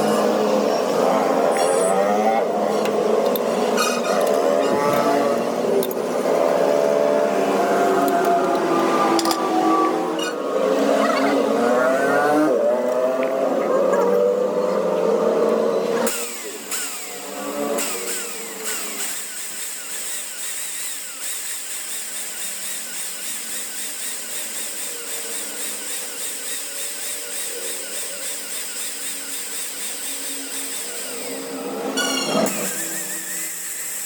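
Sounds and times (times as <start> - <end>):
power tool on metal: 0.0 - 13.0, 15.4 - 34.0.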